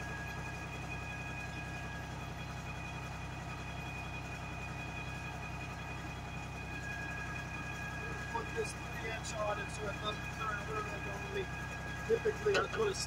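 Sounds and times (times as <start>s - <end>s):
engine hum: 0.0s - 13.0s
steady high whine: 0.0s - 13.0s.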